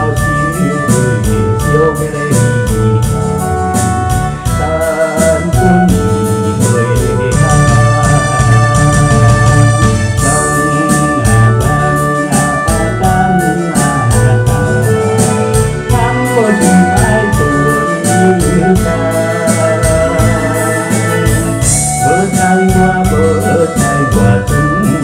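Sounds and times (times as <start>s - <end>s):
karaoke backing music: 0.0s - 25.0s.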